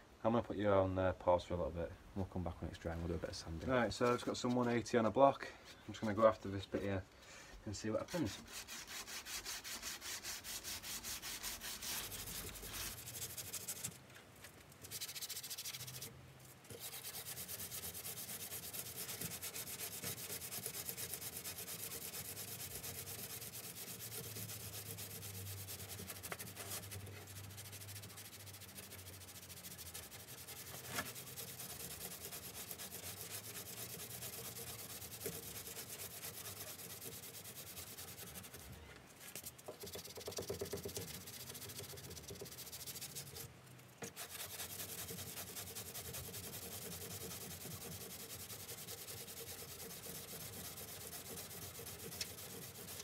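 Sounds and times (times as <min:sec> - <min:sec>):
sandpaper rasping on filler: 0:07.9 - 0:14.0, 0:14.8 - 0:16.1, 0:16.7 - 0:53.0.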